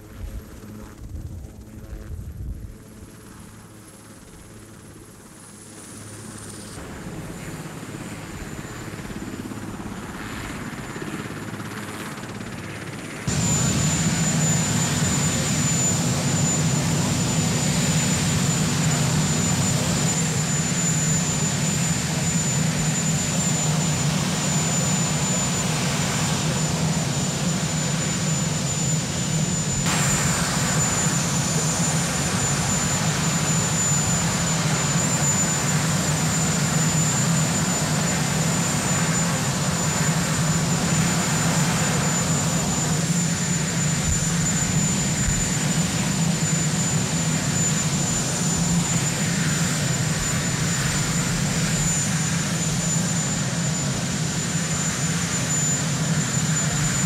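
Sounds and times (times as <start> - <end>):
helicopter turbine and rotor: 0.0 - 57.0
high turbine whine: 6.0 - 57.0.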